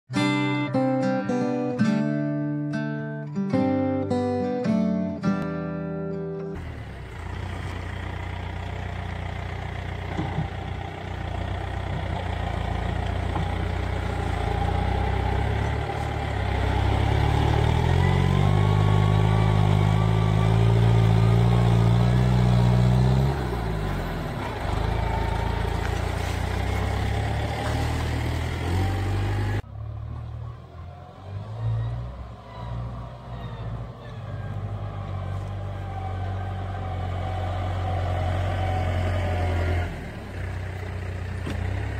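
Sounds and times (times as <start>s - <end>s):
tractor diesel engine running: 6.5s - 41.9s.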